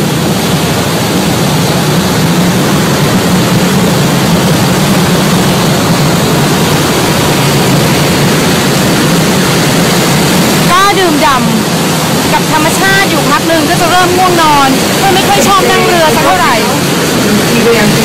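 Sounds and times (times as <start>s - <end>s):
boat engine droning: 0.0s - 18.0s
wind and water rushing: 0.0s - 18.0s.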